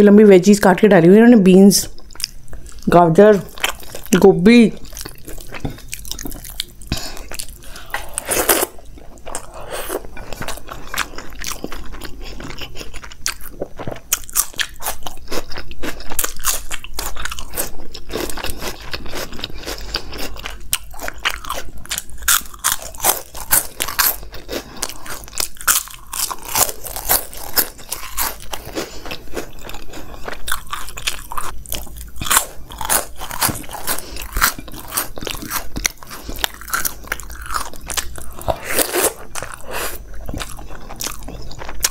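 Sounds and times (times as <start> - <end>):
crunching crisp corn snacks: 2.1 - 41.9.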